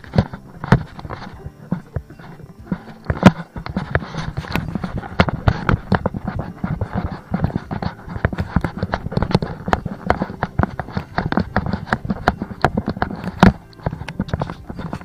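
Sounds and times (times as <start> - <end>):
hiker footsteps crunching on trail: 0.0 - 15.0.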